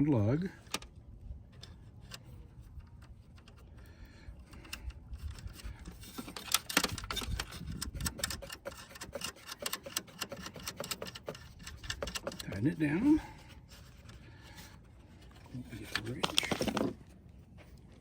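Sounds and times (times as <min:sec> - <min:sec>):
metallic clicks and scratches: 0:01.5 - 0:17.1.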